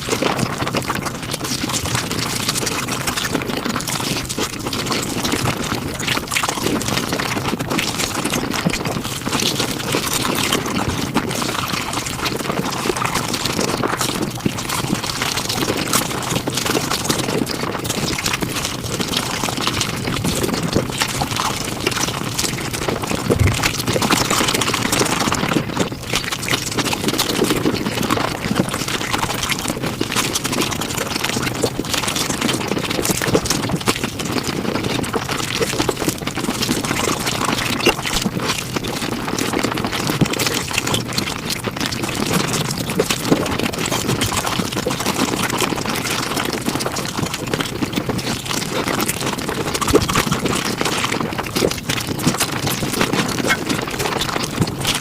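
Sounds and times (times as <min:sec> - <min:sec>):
sped-up chewing and mouth noises: 0:01.7 - 0:55.0.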